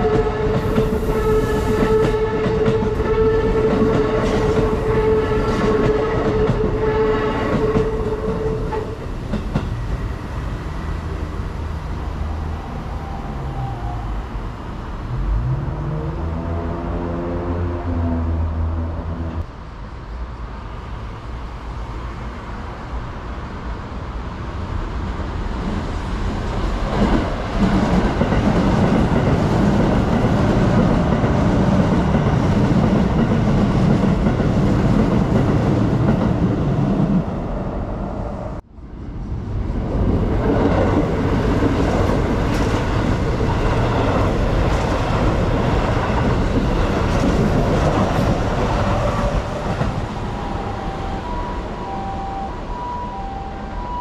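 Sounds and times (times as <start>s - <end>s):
electric train wheel-on-rail noise: 0.0s - 54.0s.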